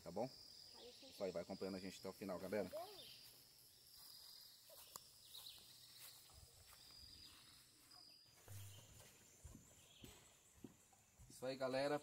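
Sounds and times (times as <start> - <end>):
faint high-pitched chirps: 0.0 - 12.0.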